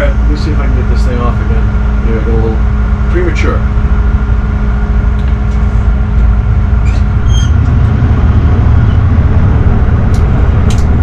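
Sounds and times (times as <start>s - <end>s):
boat diesel engine rumble: 0.0s - 11.0s.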